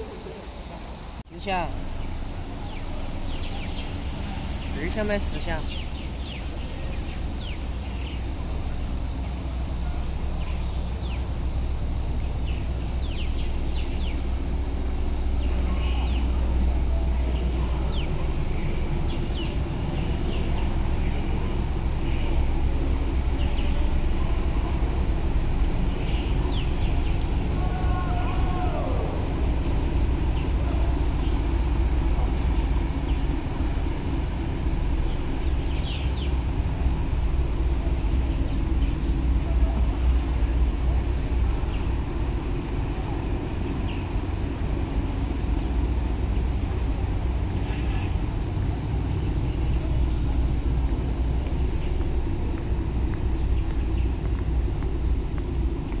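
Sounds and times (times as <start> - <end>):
river-side ambience rumble: 0.0 - 56.0.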